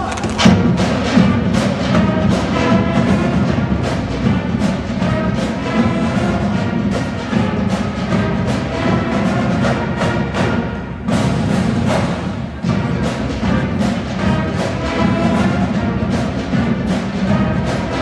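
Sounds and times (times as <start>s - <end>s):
drumline beat: 0.0s - 18.0s
marching band brass: 0.0s - 18.0s.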